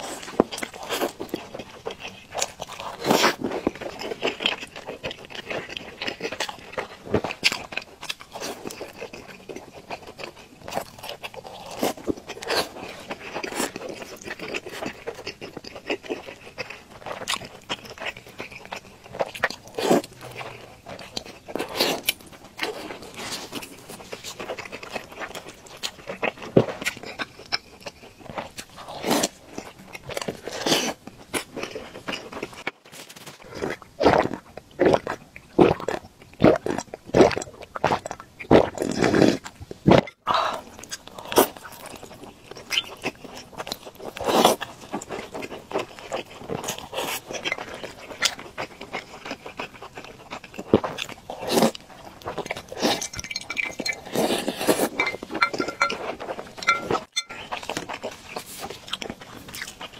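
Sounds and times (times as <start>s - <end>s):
chewing crunches: 0.0s - 59.9s.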